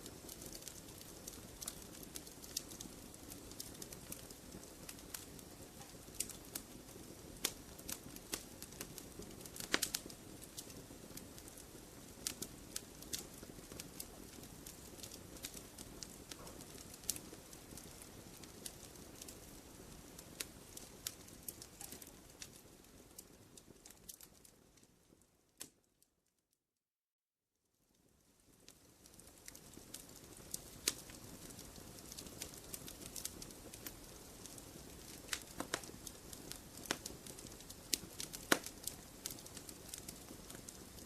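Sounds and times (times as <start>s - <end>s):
campfire crackling and popping: 0.0s - 25.8s, 28.0s - 41.0s
low rustle of flames: 0.0s - 26.4s, 27.7s - 41.0s.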